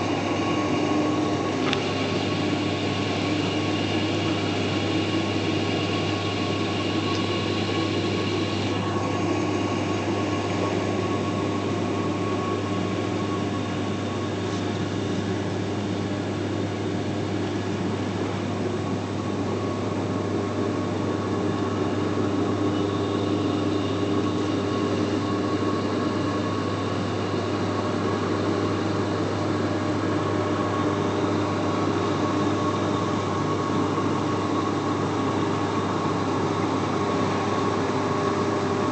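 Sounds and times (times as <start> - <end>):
machine drone with low hum: 0.0 - 38.9.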